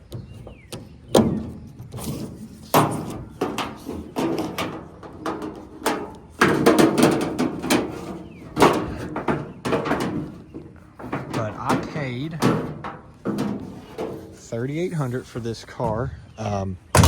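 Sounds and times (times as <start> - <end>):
metal clanks and rattles: 0.0 - 16.0.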